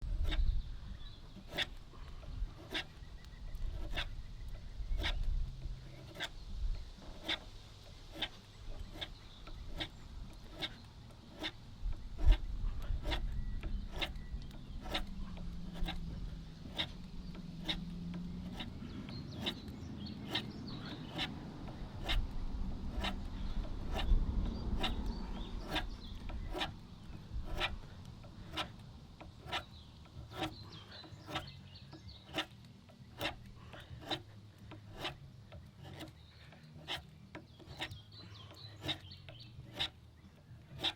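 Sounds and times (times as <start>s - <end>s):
rasping on wood: 0.0s - 40.9s.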